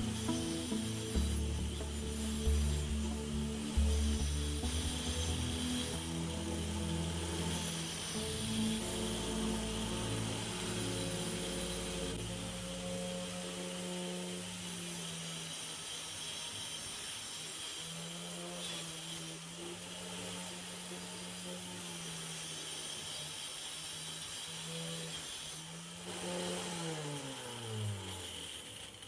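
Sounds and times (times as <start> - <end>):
angle grinder motor running: 0.0 - 29.0.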